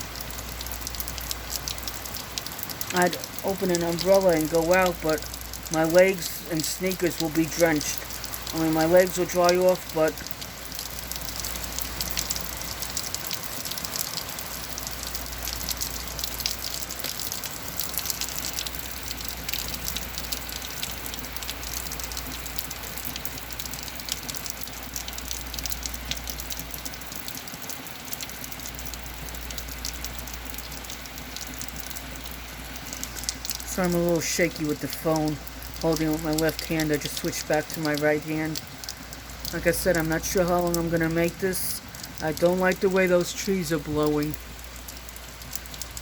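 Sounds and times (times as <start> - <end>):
heavy rain on porch: 0.0 - 46.0.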